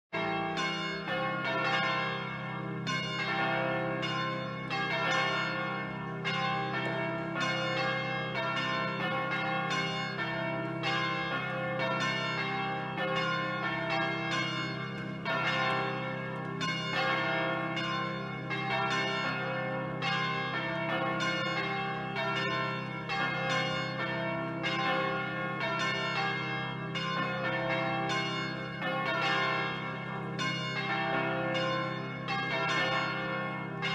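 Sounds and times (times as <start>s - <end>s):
church bells pealing: 0.2s - 33.9s.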